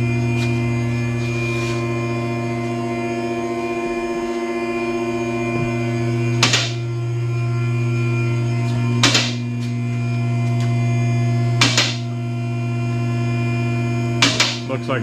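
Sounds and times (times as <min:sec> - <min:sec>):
hydraulic pump motor humming: 0:00.0 - 0:15.0.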